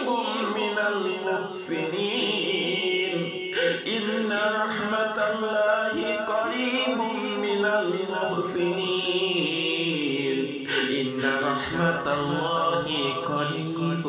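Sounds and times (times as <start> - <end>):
person chanting: 0.0 - 14.0.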